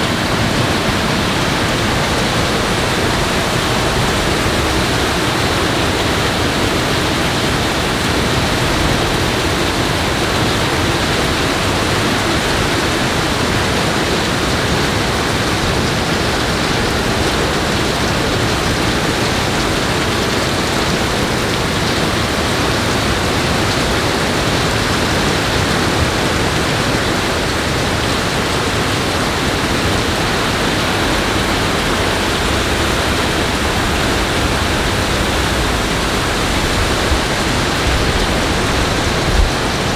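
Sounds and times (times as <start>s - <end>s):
loud rush of water: 0.0s - 39.9s.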